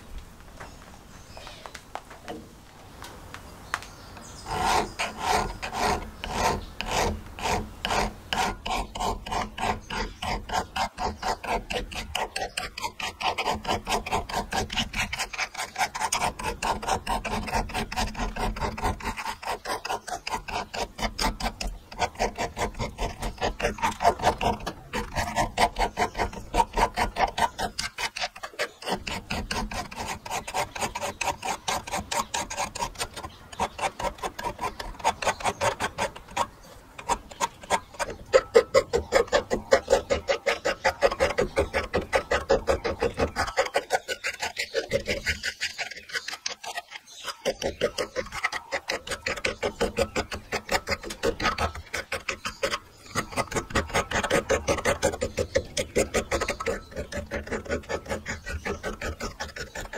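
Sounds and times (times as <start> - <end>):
file rasping on metal: 4.3 - 59.9.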